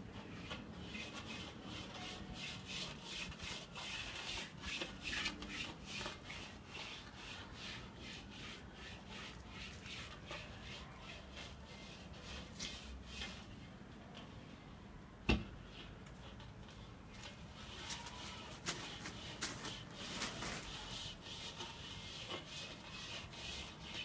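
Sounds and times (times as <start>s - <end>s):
hand tool scraping a wall: 0.2s - 13.5s, 17.3s - 24.0s.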